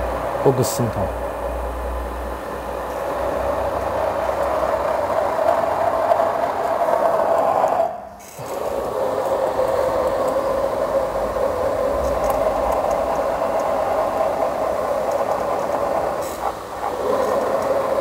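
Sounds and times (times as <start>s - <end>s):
machine grinding whir: 0.0s - 18.0s.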